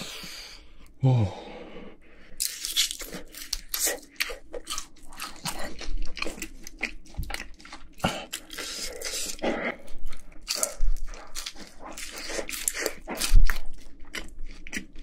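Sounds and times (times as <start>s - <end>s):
crunching and chewing food: 2.3s - 15.0s.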